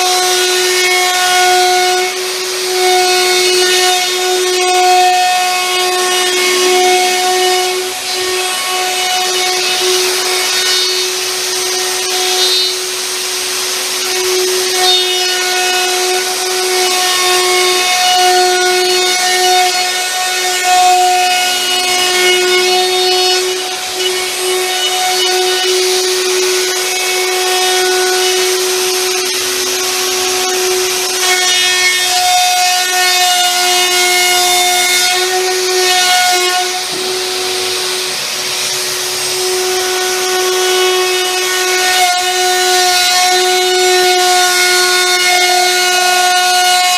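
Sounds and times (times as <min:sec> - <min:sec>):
router bit cutting wood: 0:00.0 - 0:46.9
router motor whining: 0:00.0 - 0:46.9.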